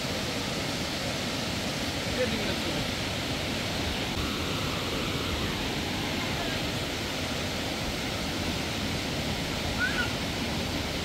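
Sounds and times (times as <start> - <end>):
steady rushing outdoor noise: 0.0 - 11.0.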